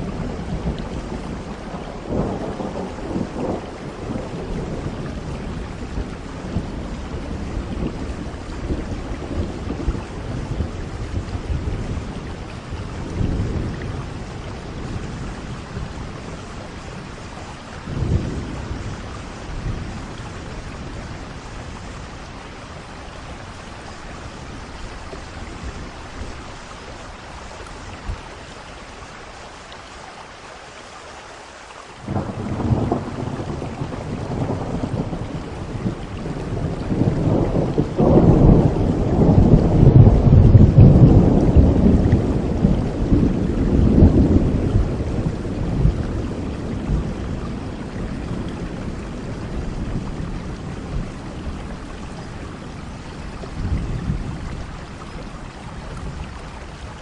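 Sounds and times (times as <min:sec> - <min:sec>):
rolling thunder: 0:00.0 - 0:28.4, 0:32.0 - 0:57.0
heavy rain: 0:00.0 - 0:57.0.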